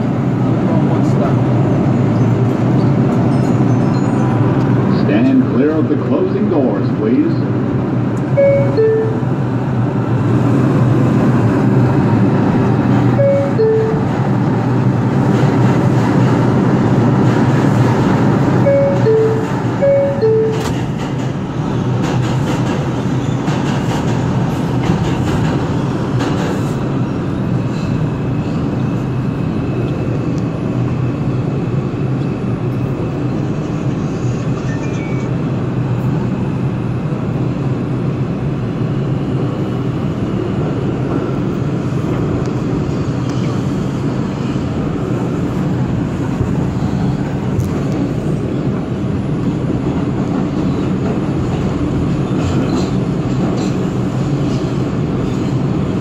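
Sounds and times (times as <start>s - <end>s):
subway train rumble and wheel noise: 0.0s - 56.0s.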